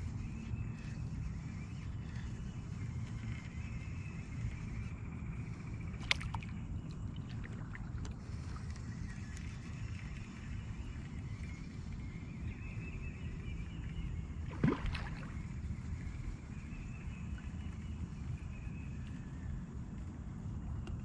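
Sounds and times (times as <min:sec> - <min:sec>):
wind and water rumble: 0:00.0 - 0:21.0.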